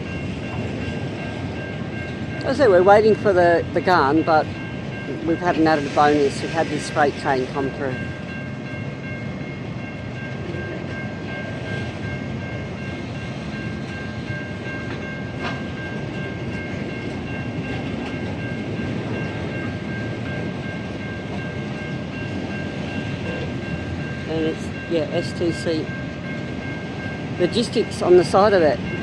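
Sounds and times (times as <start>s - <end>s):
train wagons rumbling past: 0.0s - 29.0s.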